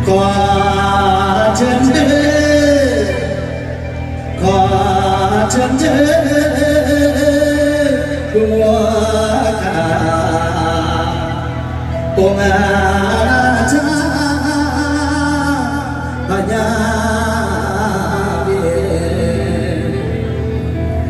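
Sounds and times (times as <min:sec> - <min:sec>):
person singing with band: 0:00.0 - 0:20.8.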